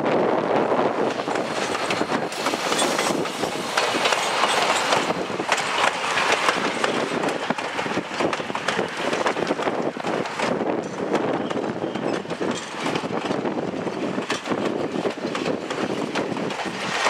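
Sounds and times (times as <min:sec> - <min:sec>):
train coaches rumbling past: 0:00.0 - 0:17.0
wheels clattering over rail joints: 0:01.0 - 0:17.0.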